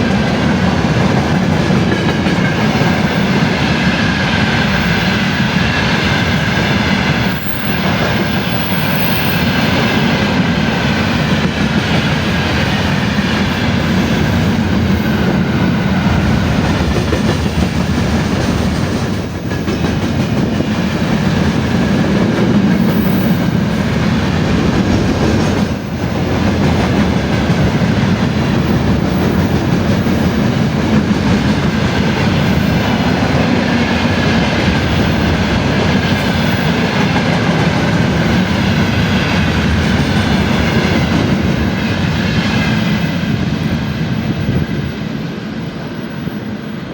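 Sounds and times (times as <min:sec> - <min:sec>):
train passing on rails: 0:00.0 - 0:46.9.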